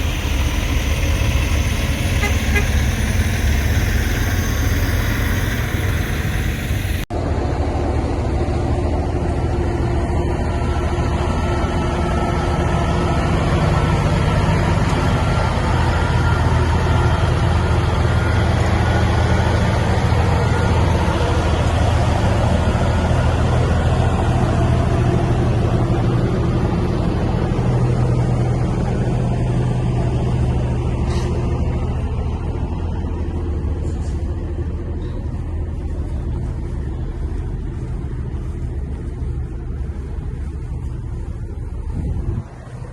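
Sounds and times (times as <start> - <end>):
diesel truck engine running: 0.0 - 7.1, 9.2 - 42.9.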